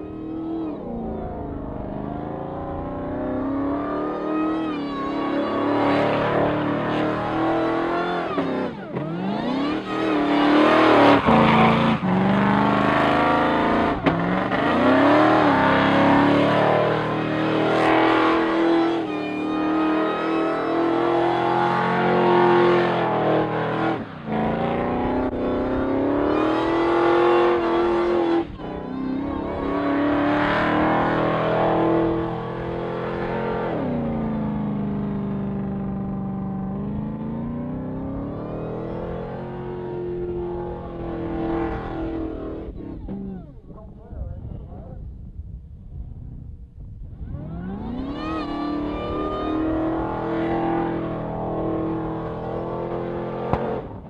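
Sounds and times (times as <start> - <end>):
truck engine revving hard: 0.0 - 43.4, 47.3 - 54.0.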